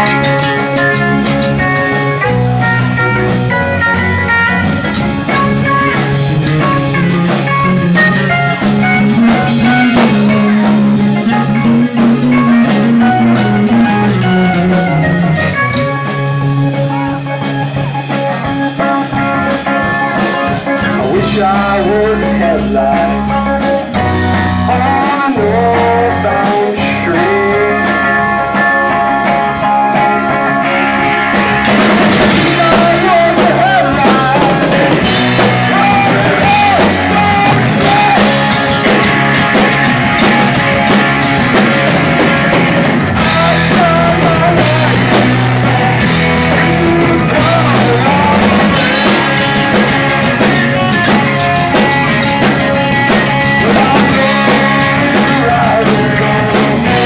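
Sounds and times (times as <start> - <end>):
bending lead guitar line: 0.0 - 57.0
live rock band playing: 0.0 - 57.0.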